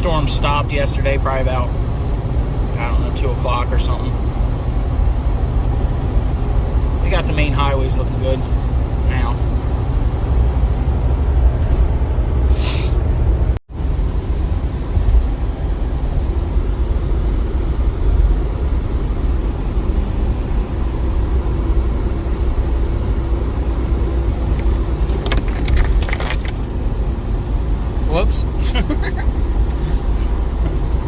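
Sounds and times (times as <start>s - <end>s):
vehicle rumble from inside cab: 0.0s - 31.0s.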